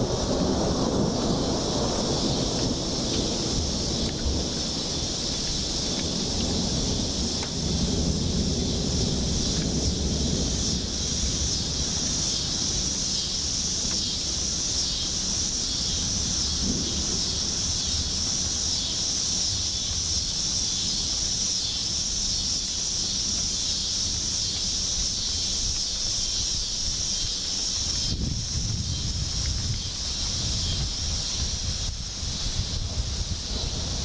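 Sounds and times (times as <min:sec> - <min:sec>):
steady high hiss: 0:00.0 - 0:34.0
wind rumbling on microphone: 0:00.0 - 0:34.0.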